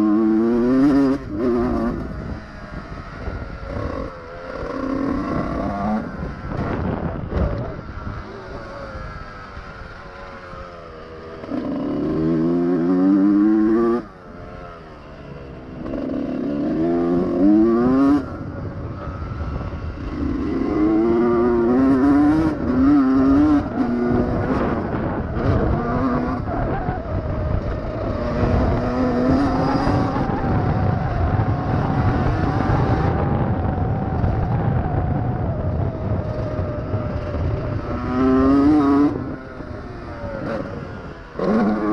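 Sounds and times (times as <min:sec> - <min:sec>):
two-stroke engine revving: 0:00.0 - 0:33.8, 0:35.8 - 0:41.9.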